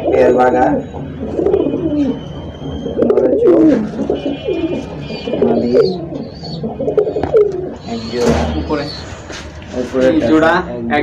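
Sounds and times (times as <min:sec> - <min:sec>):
pigeons cooing: 0:00.0 - 0:10.6.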